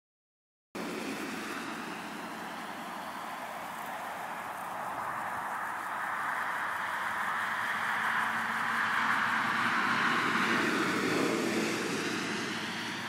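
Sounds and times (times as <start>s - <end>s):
steady rushing noise: 0.8s - 13.0s.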